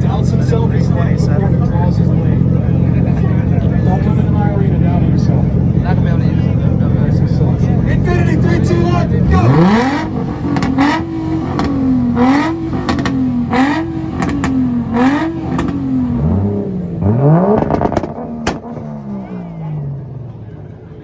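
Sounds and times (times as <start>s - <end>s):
exhaust pops and bangs: 0.0s - 19.0s
car engine revving on limiter: 0.0s - 20.6s.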